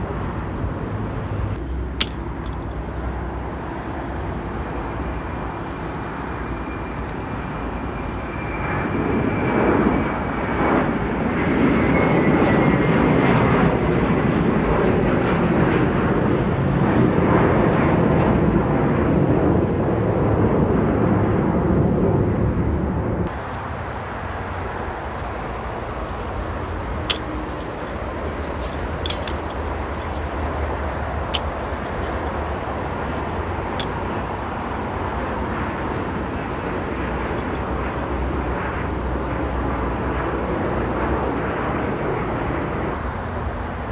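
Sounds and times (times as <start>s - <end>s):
jet engine rush: 0.0s - 43.9s
jet engine whine: 0.0s - 43.9s.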